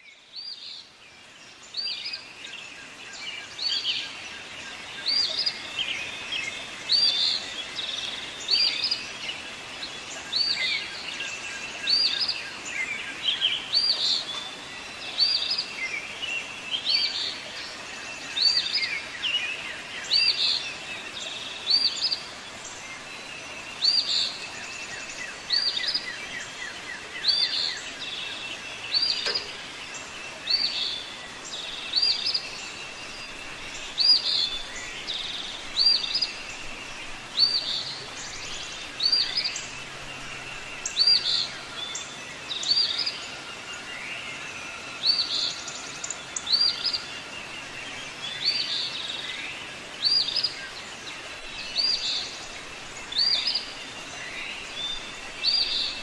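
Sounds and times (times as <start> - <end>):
songbird trills and calls: 0.0 - 56.0.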